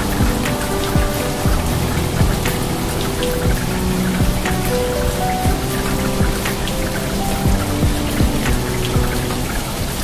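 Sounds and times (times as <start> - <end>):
rain falling on palm trees: 0.0 - 10.0
soft background music: 0.0 - 10.0.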